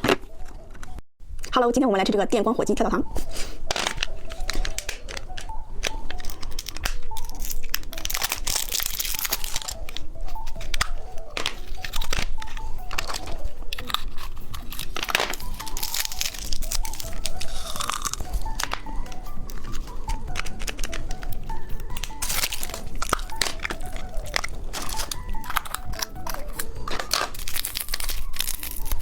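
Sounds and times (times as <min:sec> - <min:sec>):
popping candy crackling: 0:00.0 - 0:29.0
soft background music: 0:00.0 - 0:29.0.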